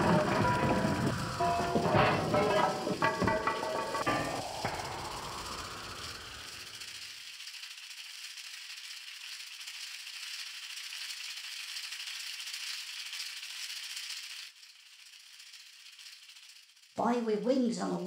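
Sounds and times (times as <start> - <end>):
high rattling hiss: 0.0 - 18.0.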